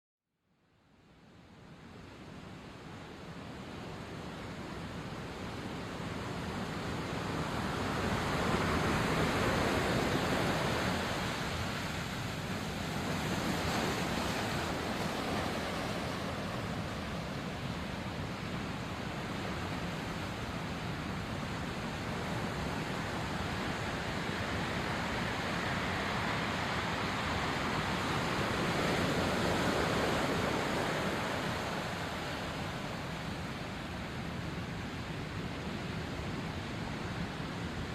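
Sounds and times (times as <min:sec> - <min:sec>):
sea waves washing onto shore: 0:04.4 - 0:37.9.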